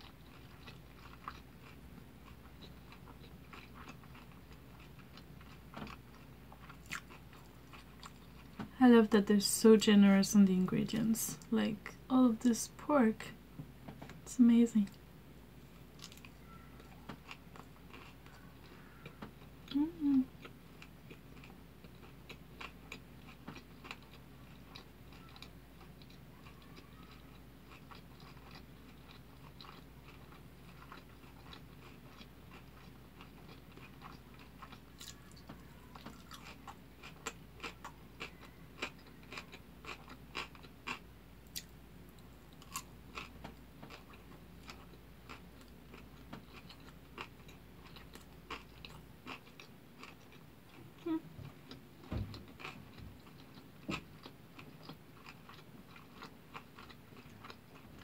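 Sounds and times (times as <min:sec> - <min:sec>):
close chewing mouth sounds: 0:00.0 - 0:08.7, 0:15.7 - 0:58.0.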